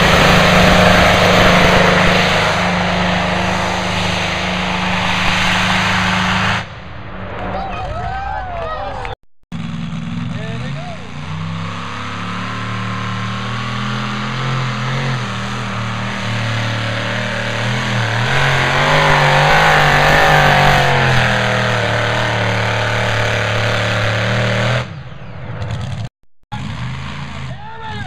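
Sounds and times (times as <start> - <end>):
tractor engine at full power: 0.0 - 7.6, 9.5 - 27.9.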